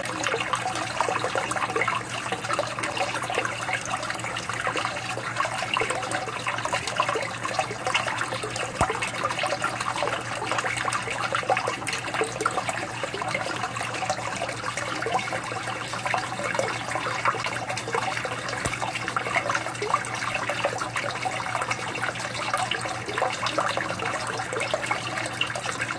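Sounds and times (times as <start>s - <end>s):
aquarium water trickling and bubbling: 0.0s - 25.9s.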